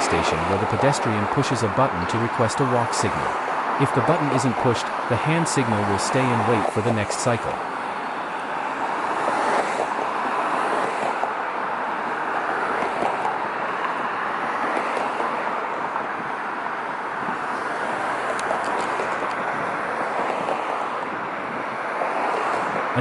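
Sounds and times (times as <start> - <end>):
cars passing on busy road: 0.0 - 23.0.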